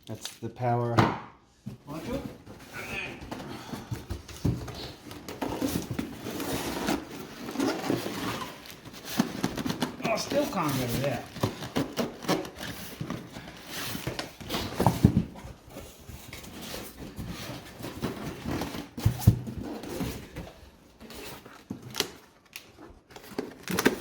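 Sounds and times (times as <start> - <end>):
packaging rustling and scraping: 1.7 - 24.0.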